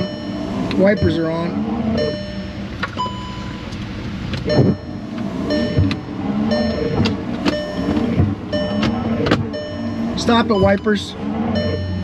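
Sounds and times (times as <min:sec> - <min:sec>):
electronic warning beep: 0:00.0 - 0:03.7, 0:04.5 - 0:12.0
windshield wipers sweeping: 0:00.0 - 0:12.0.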